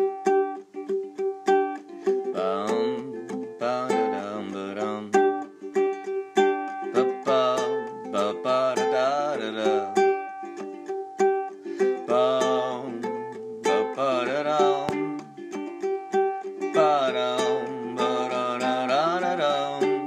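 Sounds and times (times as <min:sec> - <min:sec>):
ukulele picked riff: 0:00.0 - 0:20.0.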